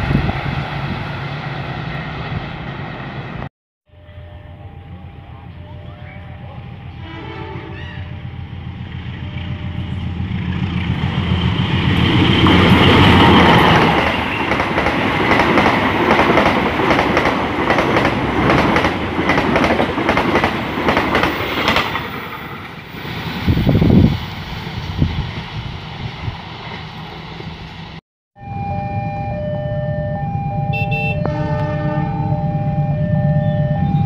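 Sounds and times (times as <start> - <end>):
locomotive engine: 0.0 - 34.0.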